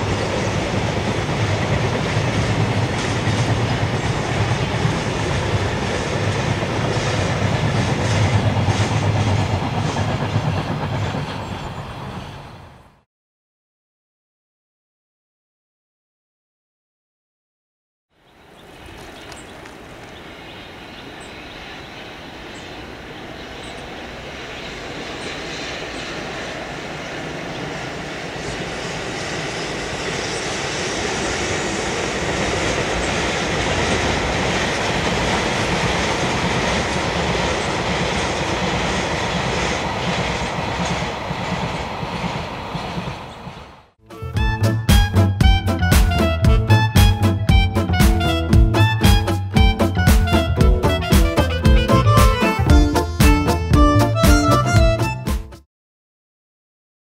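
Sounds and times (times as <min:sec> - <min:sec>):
train wheels rumbling on rails: 0:00.0 - 0:12.9, 0:18.5 - 0:55.2.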